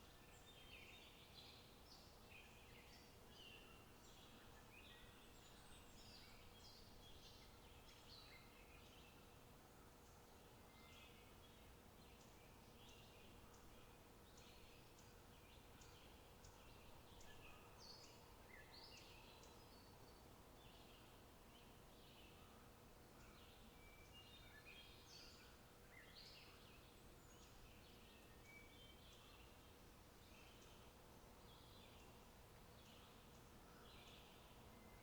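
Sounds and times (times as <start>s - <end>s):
low background hiss: 0.0s - 35.0s.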